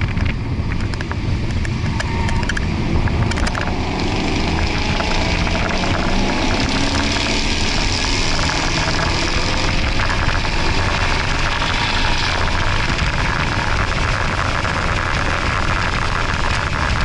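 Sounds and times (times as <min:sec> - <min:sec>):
car engine revving: 0:00.0 - 0:17.0
loud rush of noise: 0:00.0 - 0:17.0.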